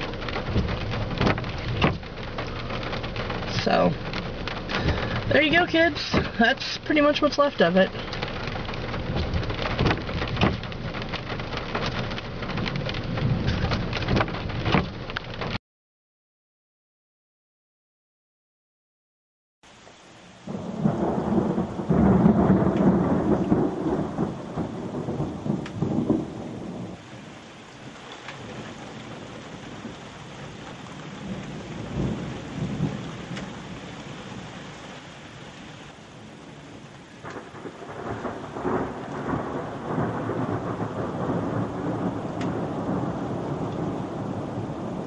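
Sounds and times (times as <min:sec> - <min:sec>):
steady rain: 0:00.0 - 0:15.6, 0:19.6 - 0:45.0
thunder rumbling: 0:00.0 - 0:15.6, 0:20.4 - 0:45.0.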